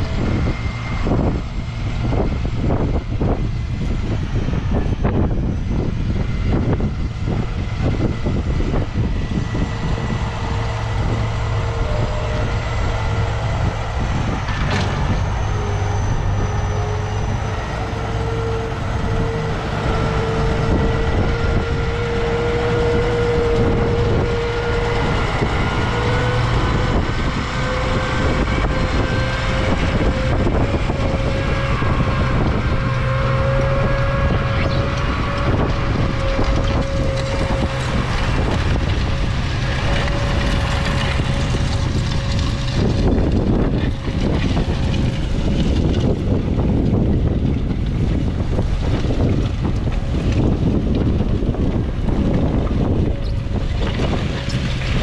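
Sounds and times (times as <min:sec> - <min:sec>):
held whine: 0:00.0 - 0:55.0
tractor diesel engine under load: 0:00.0 - 0:55.0.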